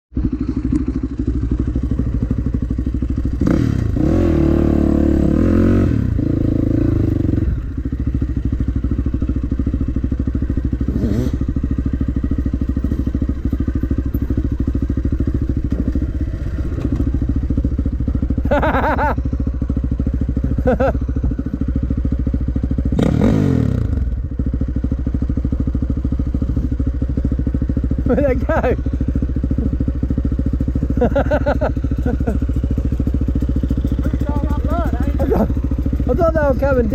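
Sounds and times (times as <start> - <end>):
dirt bike engine revving: 0.2 - 21.6, 22.7 - 24.4, 26.1 - 36.9.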